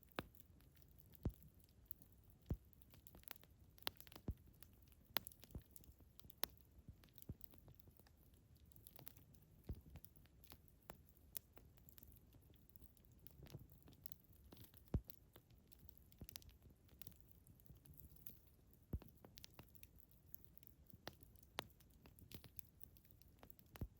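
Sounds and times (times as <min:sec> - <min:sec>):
faint low hiss: 0:00.0 - 0:23.9
wood fire crackling: 0:00.0 - 0:23.9.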